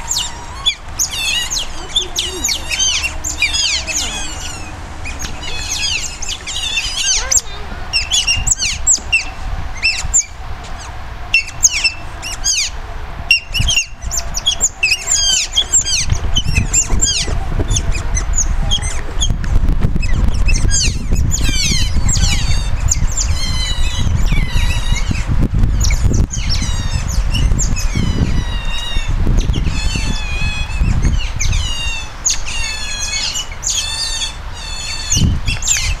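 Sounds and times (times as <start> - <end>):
low rumble: 0.0 - 31.8
otters squeaking and chirping: 0.0 - 36.0.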